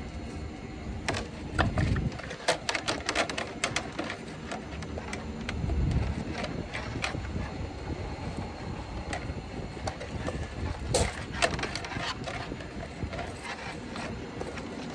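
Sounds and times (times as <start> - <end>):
scraping and knocking clatter: 1.0 - 14.9.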